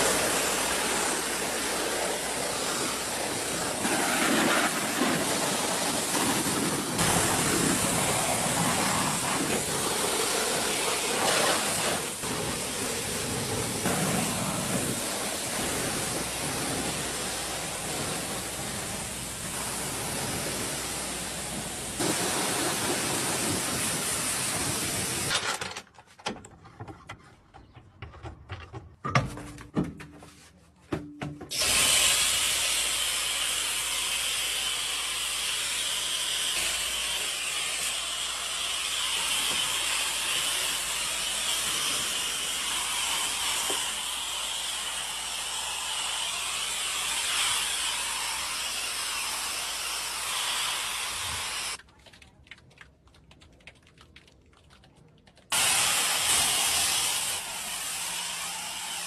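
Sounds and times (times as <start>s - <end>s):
pressure washer spraying: 0.0s - 25.3s, 31.5s - 51.8s, 55.5s - 59.0s.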